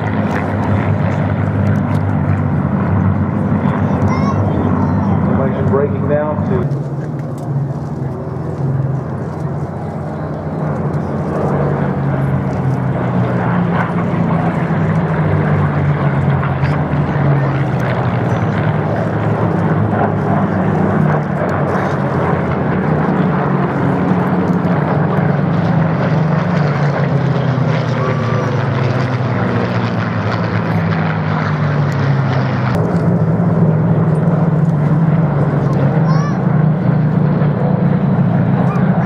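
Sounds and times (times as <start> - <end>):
piston aircraft engines droning: 0.0 - 39.0.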